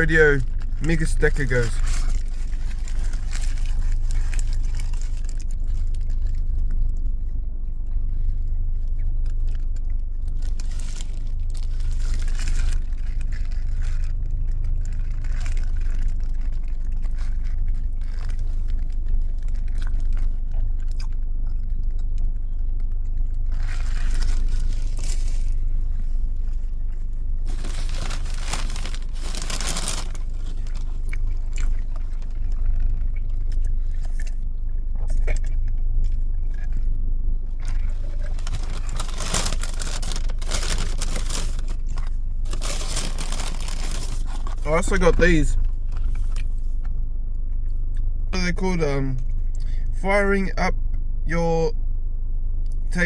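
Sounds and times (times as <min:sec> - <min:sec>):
biting and chewing burger: 0:00.0 - 0:48.3
low rumble: 0:00.0 - 0:53.0.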